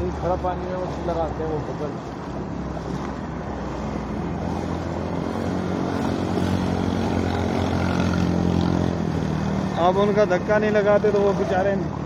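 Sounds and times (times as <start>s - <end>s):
water splashing on road: 0.0s - 12.0s.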